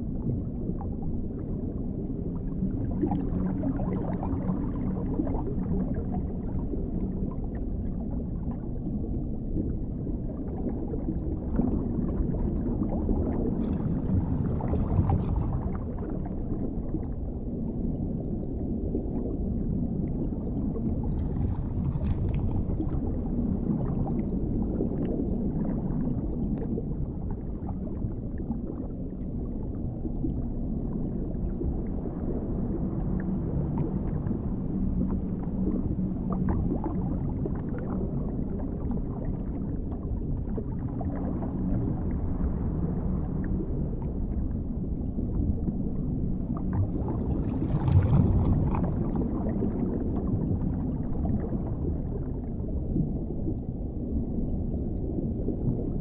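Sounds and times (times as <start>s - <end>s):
muffled underwater rumble: 0.0s - 56.0s
water gurgling: 0.0s - 56.0s.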